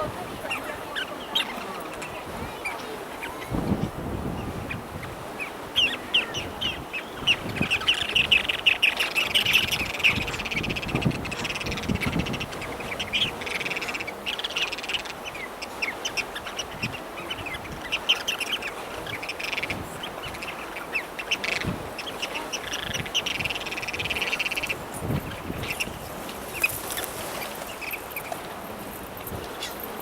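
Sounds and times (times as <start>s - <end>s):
birds chirping and chattering: 0.0s - 30.0s
steady background hiss: 0.0s - 30.0s.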